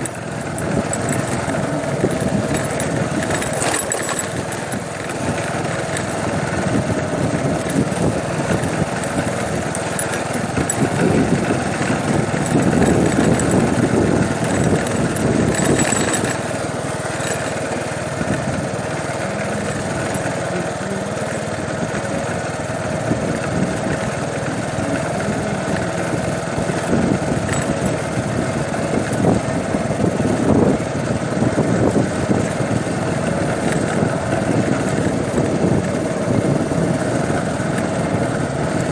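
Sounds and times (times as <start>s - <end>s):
engine running with low rumble: 0.0s - 38.9s.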